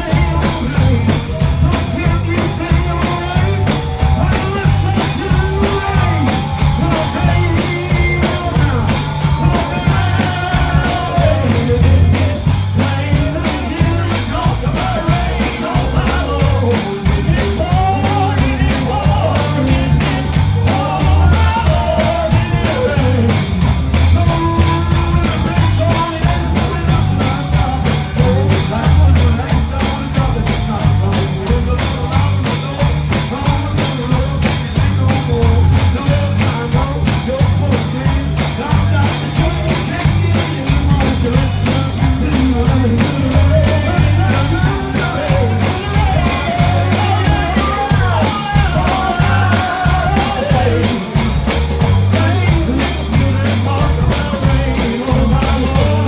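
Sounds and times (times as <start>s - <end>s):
band playing gospel song: 0.0s - 56.0s
drum kit beat: 0.0s - 56.0s
pulsing bass: 0.0s - 56.0s
voices singing: 0.0s - 56.0s.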